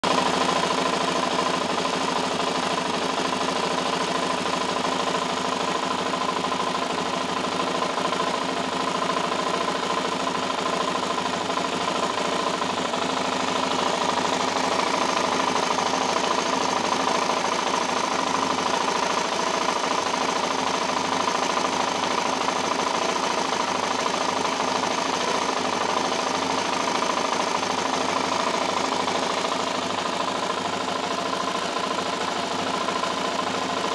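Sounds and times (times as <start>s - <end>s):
engine idling: 0.0s - 33.9s
rapid engine ticking: 0.0s - 33.9s.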